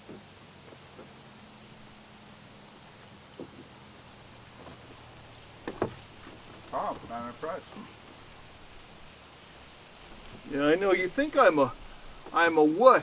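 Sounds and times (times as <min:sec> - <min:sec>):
wooden canoe knocks and rustles: 0:00.0 - 0:02.1, 0:03.3 - 0:12.5
crickets droning: 0:00.0 - 0:13.0.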